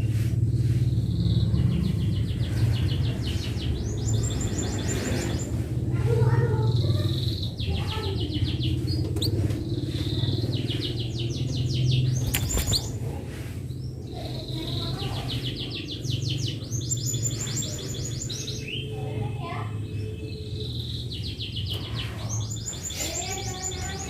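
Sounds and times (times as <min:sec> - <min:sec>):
steady low hum: 0:00.0 - 0:23.6
canary singing trills: 0:00.8 - 0:24.0.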